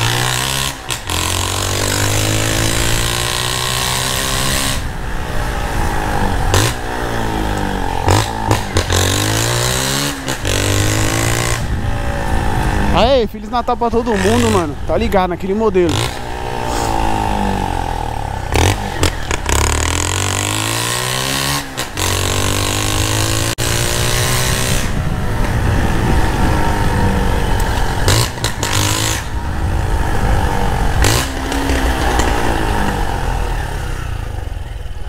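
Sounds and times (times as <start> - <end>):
loud motorcycle engine revving: 0.0 - 35.0.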